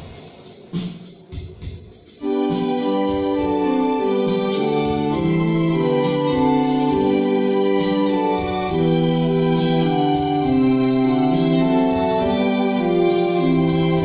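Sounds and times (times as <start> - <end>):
light percussion beat: 0.0 - 14.0
electronic organ chords: 2.1 - 14.0.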